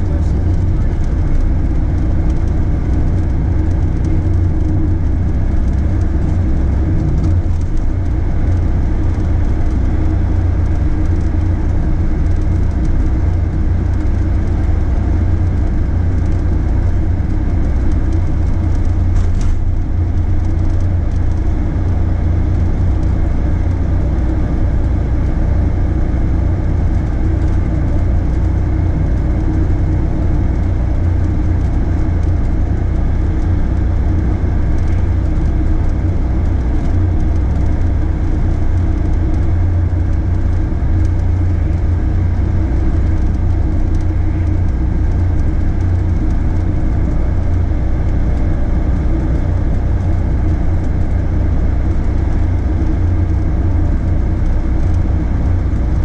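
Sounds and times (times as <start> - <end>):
vehicle rumbling in motion: 0.0 - 56.0.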